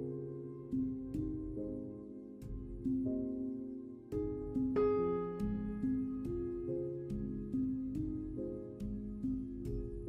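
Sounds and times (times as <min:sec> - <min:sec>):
slow piano piece: 0:00.0 - 0:10.0.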